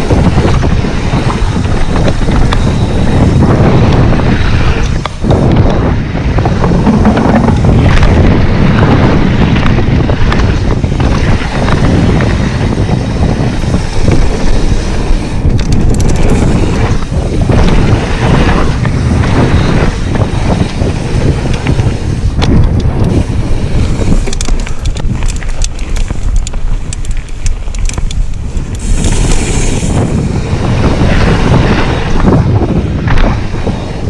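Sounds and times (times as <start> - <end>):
tyres rumbling over dirt: 0.0 - 28.0
bike rattling over bumps: 0.0 - 34.0
wind buffeting microphone: 0.0 - 34.0.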